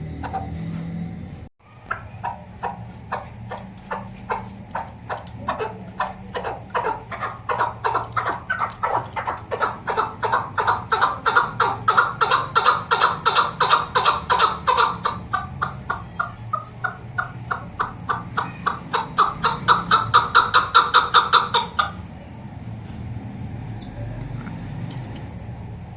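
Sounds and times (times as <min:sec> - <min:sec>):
partridge clucking calls: 0:00.0 - 0:00.7, 0:01.7 - 0:22.2.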